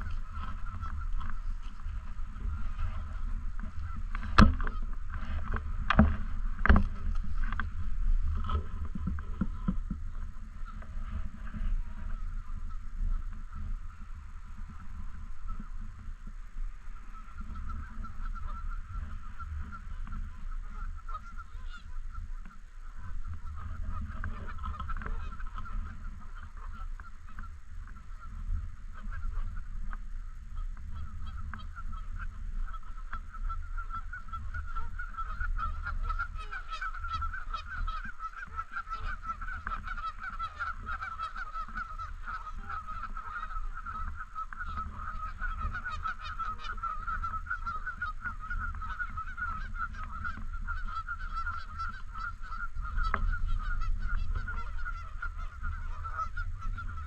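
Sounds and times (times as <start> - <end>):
low rumble: 0.0 - 47.5
geese honking: 0.0 - 57.0.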